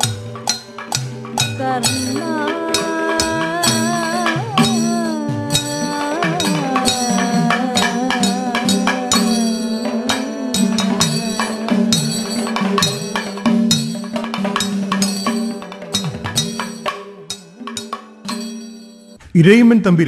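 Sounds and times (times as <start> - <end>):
drums playing: 0.0 - 20.0.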